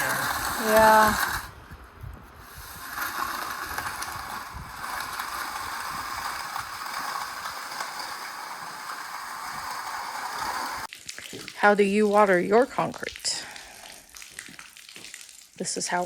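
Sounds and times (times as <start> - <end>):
water spraying on concrete: 0.0 - 1.6, 2.4 - 16.0.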